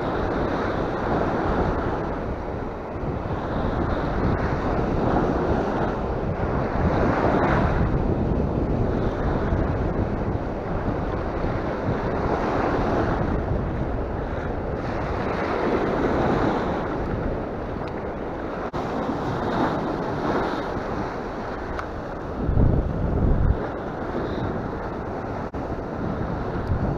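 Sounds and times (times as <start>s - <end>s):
sea surf breaking on shore: 0.0s - 26.9s
wind buffeting microphone: 0.0s - 26.9s.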